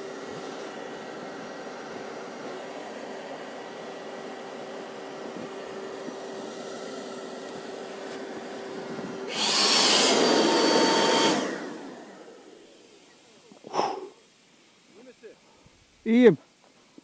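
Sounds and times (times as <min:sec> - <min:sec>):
electric fan humming: 0:00.0 - 0:16.3
fan surging with a whine: 0:00.0 - 0:16.3.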